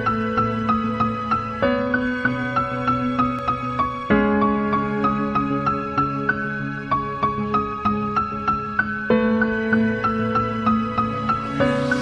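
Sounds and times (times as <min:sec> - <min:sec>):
gentle new-age melody: 0:00.0 - 0:12.0.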